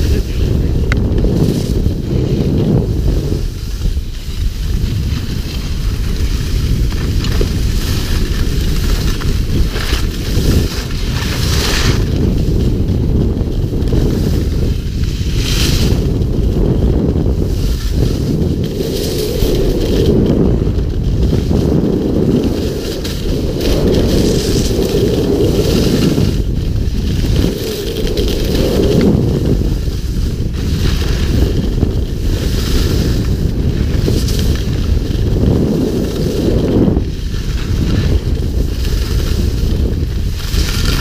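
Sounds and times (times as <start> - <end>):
skis sliding over packed snow: 0.0 - 41.0
wind rushing over microphone: 0.0 - 41.0.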